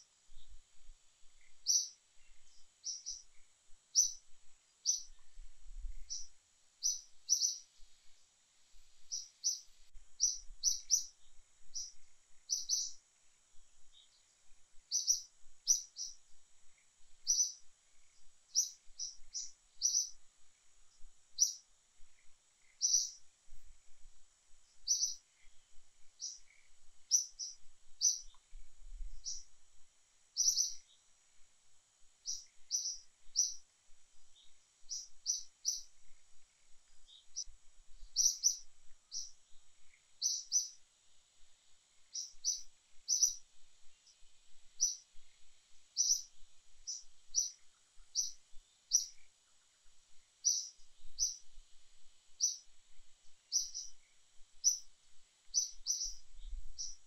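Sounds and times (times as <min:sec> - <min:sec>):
faint steady high hiss: 0:00.0 - 0:57.0
bird chirping: 0:01.2 - 0:13.0, 0:13.8 - 0:23.3, 0:24.7 - 0:29.6, 0:30.4 - 0:31.1, 0:32.2 - 0:40.8, 0:42.0 - 0:51.6, 0:52.3 - 0:52.7, 0:53.4 - 0:57.0.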